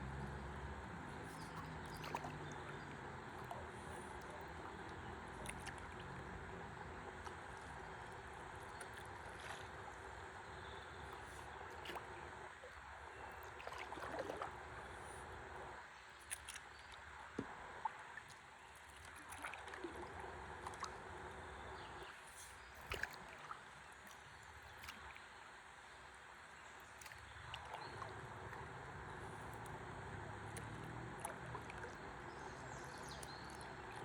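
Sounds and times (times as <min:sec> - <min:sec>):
river water lapping: 0:00.0 - 0:34.0
small splashes: 0:01.1 - 0:15.4, 0:16.0 - 0:34.0.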